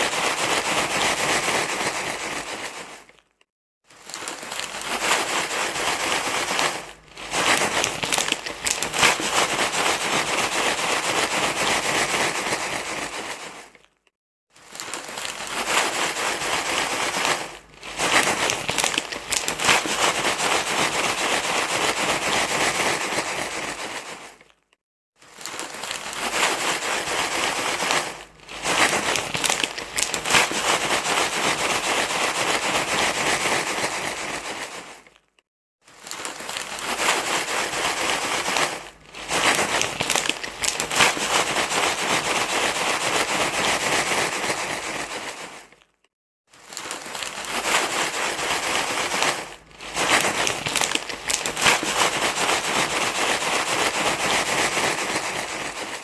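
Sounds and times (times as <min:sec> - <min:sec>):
crinkling rustling noise: 0:00.0 - 0:56.0.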